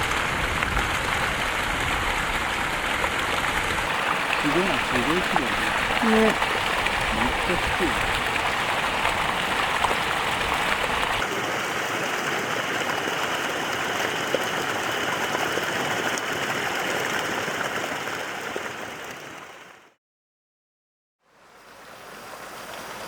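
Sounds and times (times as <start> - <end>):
running water rushing: 0.0 - 19.9.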